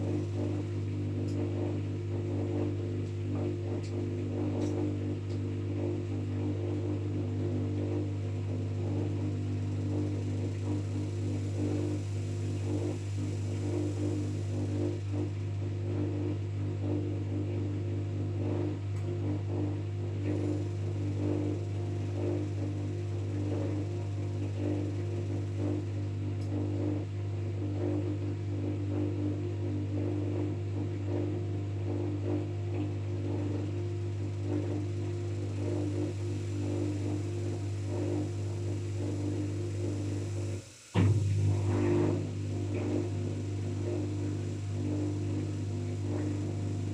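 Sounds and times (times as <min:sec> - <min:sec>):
washing machine motor hum: 0:00.0 - 0:46.9.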